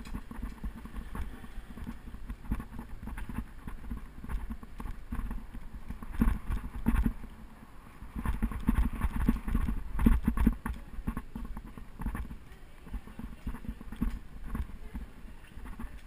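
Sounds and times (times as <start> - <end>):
bicycle rattling and knocking: 0.0 - 7.4, 8.0 - 16.0
wind buffeting microphone: 0.0 - 16.0.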